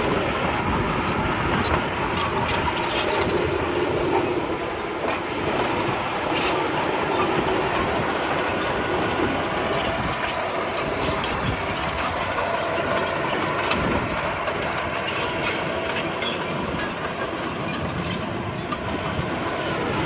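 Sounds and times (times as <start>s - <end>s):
bulldozer diesel engine running: 0.0s - 20.0s
metal clatter of steel tracks: 0.0s - 20.0s.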